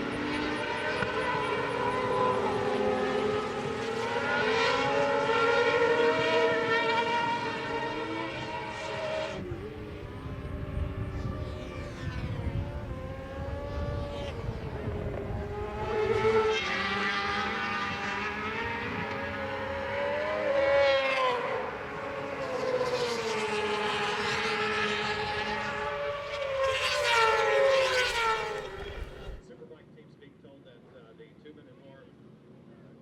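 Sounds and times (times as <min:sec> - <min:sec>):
motorcycle engines revving: 0:00.0 - 0:29.4
motorcycles passing by: 0:00.0 - 0:29.4.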